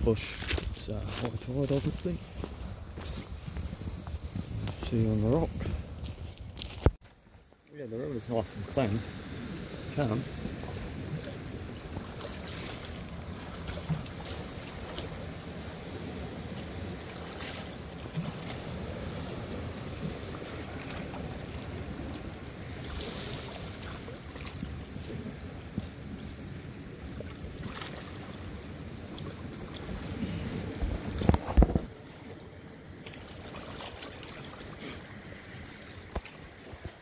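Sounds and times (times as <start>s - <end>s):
wind rumbling on microphone: 0.0s - 37.0s.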